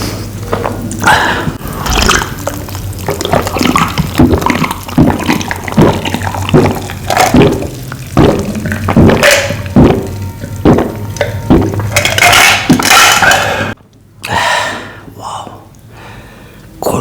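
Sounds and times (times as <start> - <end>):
person gulping loud swallows: 0.5 - 15.7.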